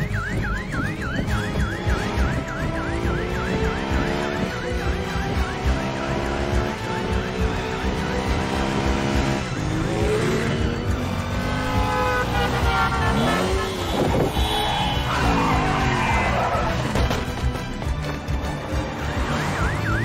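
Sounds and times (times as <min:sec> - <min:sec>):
tyres skidding: 0:00.0 - 0:20.0
car and motorcycle engines revving: 0:00.2 - 0:17.0.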